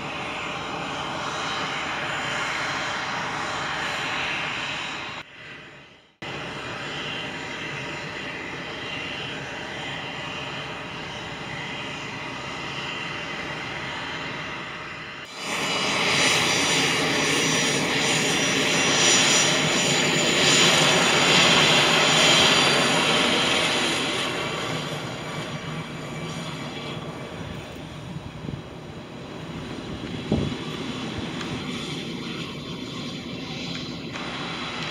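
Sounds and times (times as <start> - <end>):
jet engines whining: 0.0 - 34.9.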